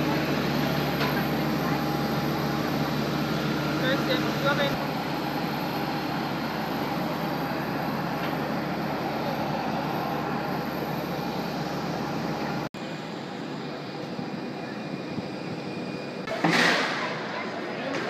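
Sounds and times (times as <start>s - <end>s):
mechanical drone of airport apron: 0.0s - 18.0s.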